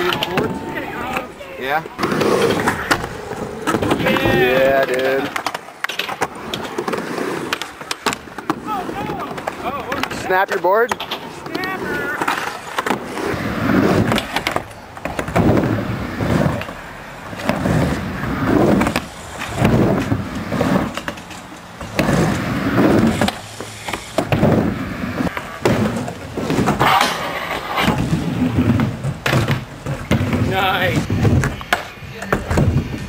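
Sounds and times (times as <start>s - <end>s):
skateboard clacking: 0.0s - 33.0s
skateboard wheels rolling on concrete: 0.0s - 33.0s.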